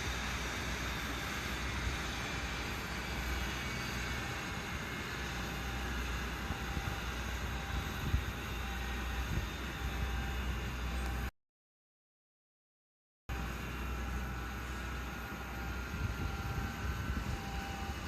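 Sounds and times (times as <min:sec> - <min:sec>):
jet engines whining: 0:00.0 - 0:11.3, 0:13.3 - 0:18.0.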